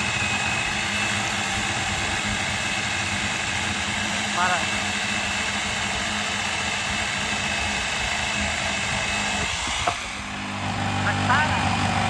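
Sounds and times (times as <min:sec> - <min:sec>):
reciprocating saw cutting timber: 0:00.0 - 0:12.0.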